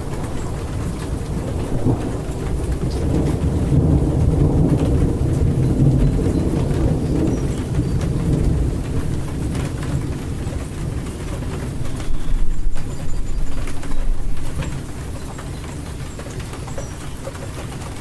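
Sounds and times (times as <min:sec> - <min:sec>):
low thunder rumble: 0:00.0 - 0:18.0
rain falling: 0:00.0 - 0:18.0
raindrop ticks: 0:00.0 - 0:18.0.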